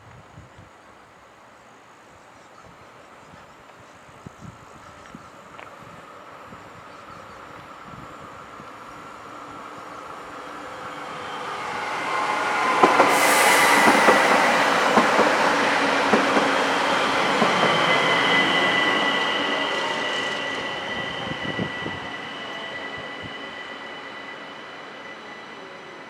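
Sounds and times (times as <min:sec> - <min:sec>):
high-pitched train whine: 0:04.2 - 0:26.0.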